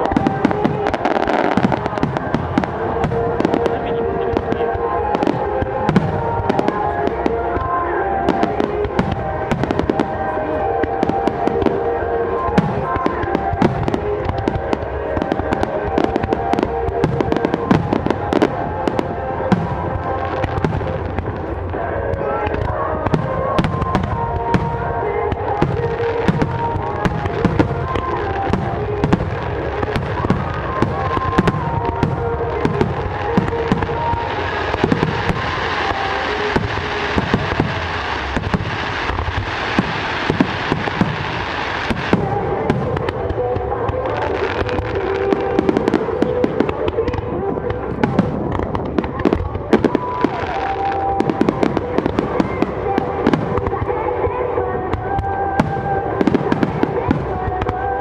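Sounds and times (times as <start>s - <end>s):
fireworks bangs and pops: 0.0s - 58.0s
fireworks crackling: 0.0s - 58.0s.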